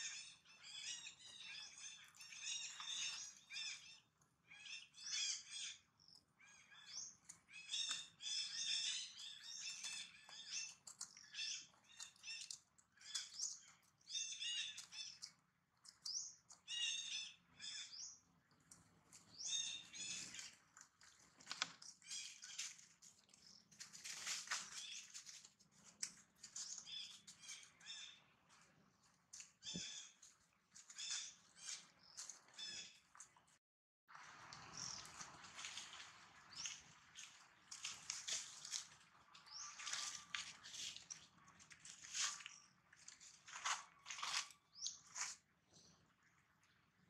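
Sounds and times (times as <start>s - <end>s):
small birds chirping: 0.0s - 33.6s, 34.2s - 47.0s.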